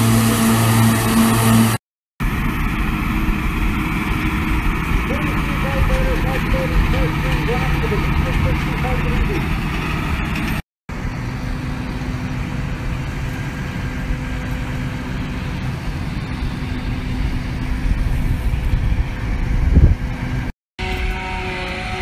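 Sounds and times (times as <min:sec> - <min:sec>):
tractor engine rumbling: 0:00.0 - 0:20.5.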